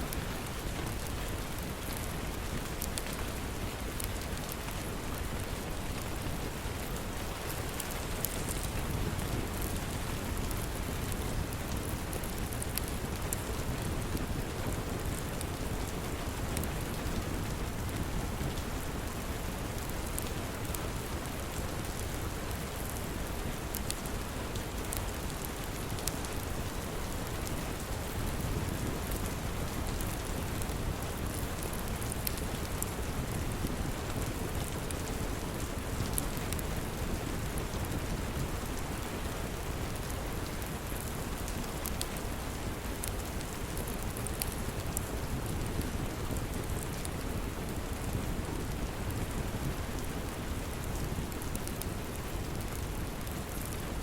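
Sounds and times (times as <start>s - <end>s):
steady rain falling: 0.0s - 54.0s
wood fire crackling: 0.1s - 54.0s.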